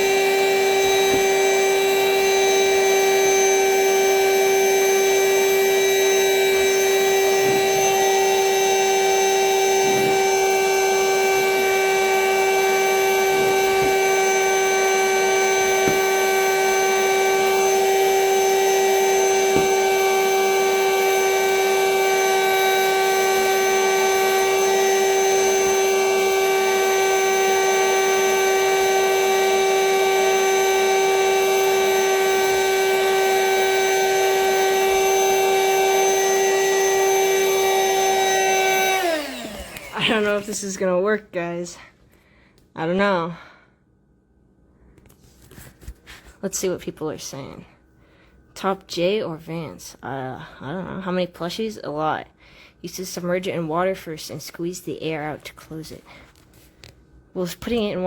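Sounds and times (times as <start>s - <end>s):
vacuum cleaner whining: 0.0s - 41.9s, 50.4s - 58.0s.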